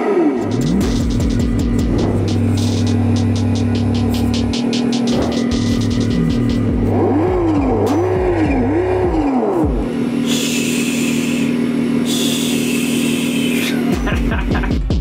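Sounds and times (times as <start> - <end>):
simulated engine idling and revving: 0.0 - 15.0.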